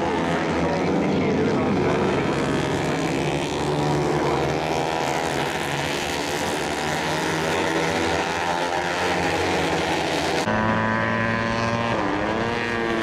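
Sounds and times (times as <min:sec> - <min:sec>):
racing motorcycle engines: 0:00.0 - 0:13.0.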